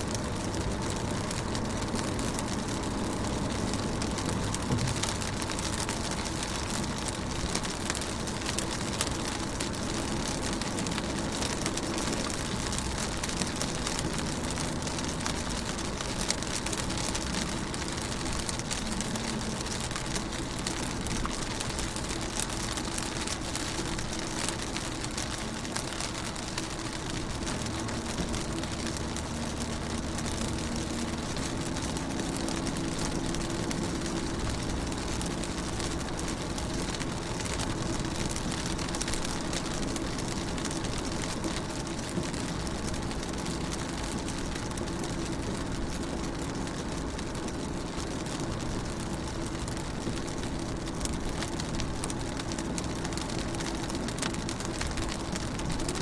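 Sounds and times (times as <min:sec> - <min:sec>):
rain on car windows: 0:00.0 - 0:56.0.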